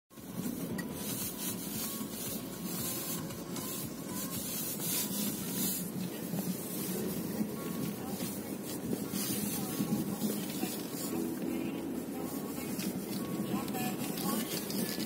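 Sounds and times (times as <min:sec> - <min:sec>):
snow scraping against car tyres: 0:00.1 - 0:15.0.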